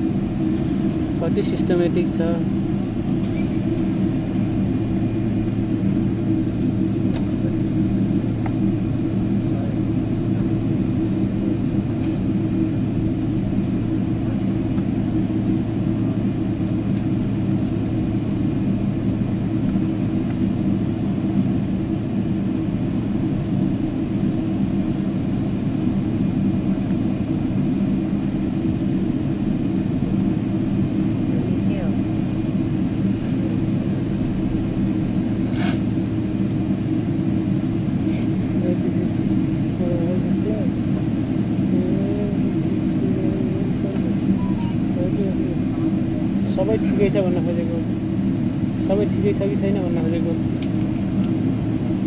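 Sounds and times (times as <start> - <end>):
airliner cabin rumble: 0.0 - 52.0
jet engine hum: 0.0 - 52.0.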